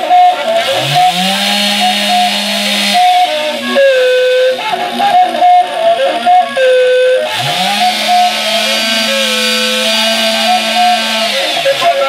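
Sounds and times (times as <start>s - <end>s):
chainsaw revving: 0.0s - 5.7s, 7.2s - 12.0s
sustained pitched notes: 0.0s - 12.0s.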